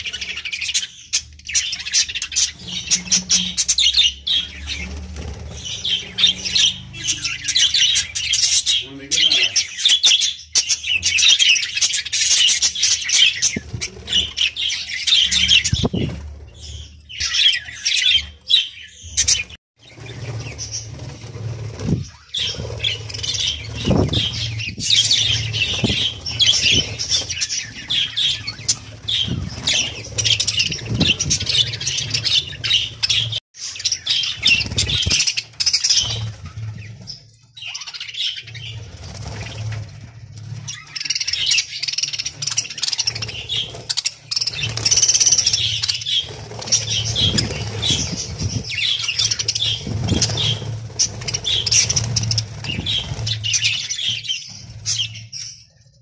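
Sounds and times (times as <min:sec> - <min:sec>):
wings flapping: 0:01.5 - 0:08.6, 0:11.8 - 0:18.4, 0:19.1 - 0:37.2, 0:37.9 - 0:55.2.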